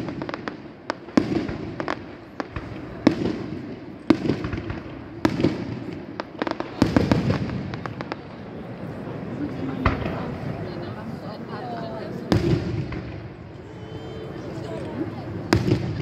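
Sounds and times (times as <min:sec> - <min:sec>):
small firework cracks: 0:00.0 - 0:10.7, 0:12.3 - 0:16.0.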